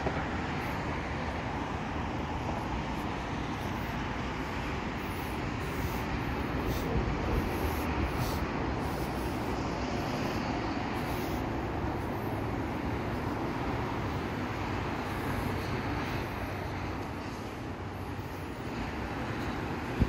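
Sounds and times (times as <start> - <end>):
distant road traffic: 0.0 - 20.0.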